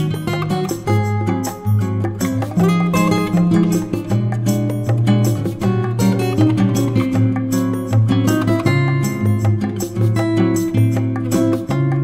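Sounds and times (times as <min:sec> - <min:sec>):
light percussion: 0:00.0 - 0:12.0
strummed acoustic guitar: 0:00.0 - 0:12.0.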